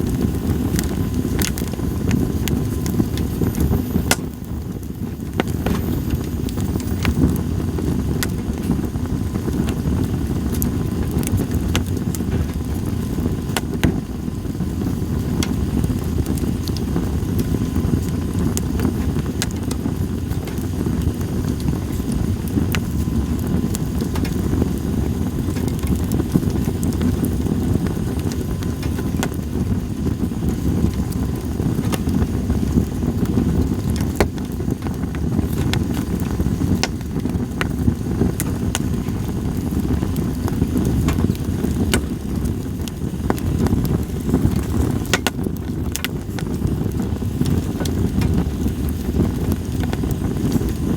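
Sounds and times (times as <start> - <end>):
campfire crackling: 0.0 - 50.9
sharp fire pops: 0.0 - 50.9.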